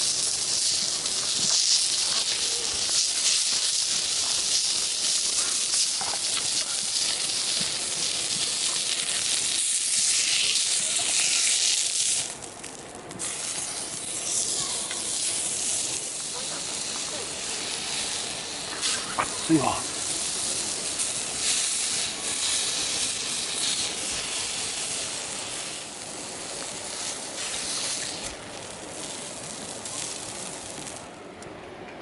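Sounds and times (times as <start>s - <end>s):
steady high hiss: 0.0s - 31.8s.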